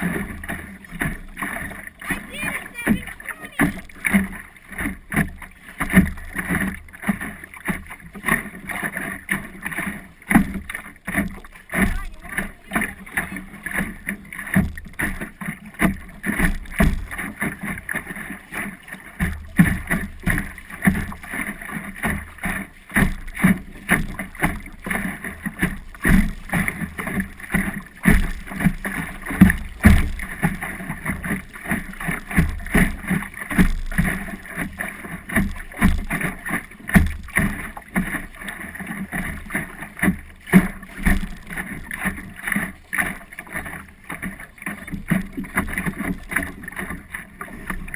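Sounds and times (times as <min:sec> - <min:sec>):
water splashing against hull: 0:00.0 - 0:47.9.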